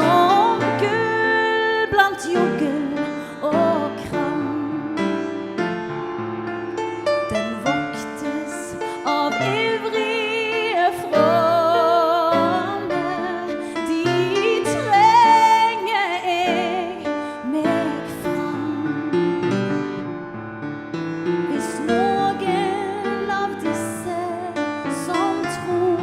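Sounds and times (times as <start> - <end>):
woman singing with vibrato: 0.0 - 5.3, 7.3 - 19.4, 21.5 - 26.0
piano accompaniment: 0.0 - 26.0.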